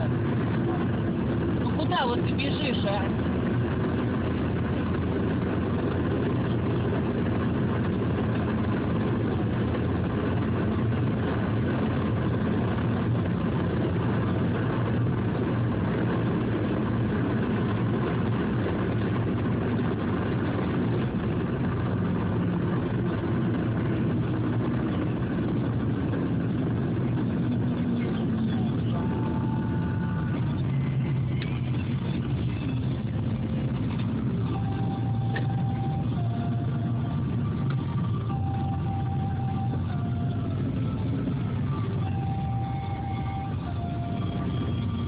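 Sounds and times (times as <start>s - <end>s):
car engine hum: 0.0s - 45.0s
road rumble: 0.0s - 45.0s.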